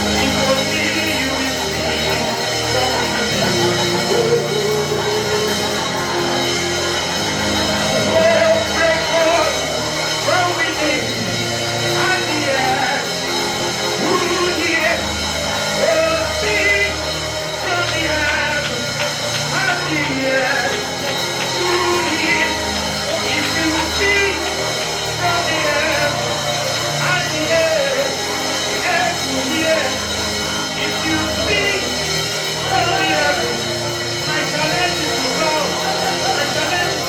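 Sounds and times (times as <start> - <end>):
keyboard chords over bass: 0.0 - 37.0
voices singing: 0.0 - 37.0.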